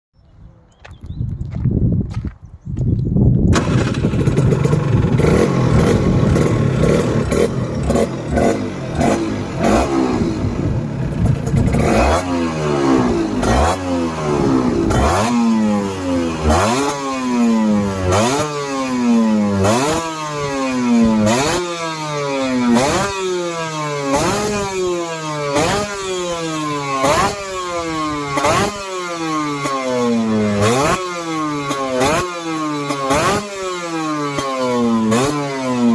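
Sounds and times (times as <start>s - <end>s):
two-stroke engine revving: 3.5s - 35.9s.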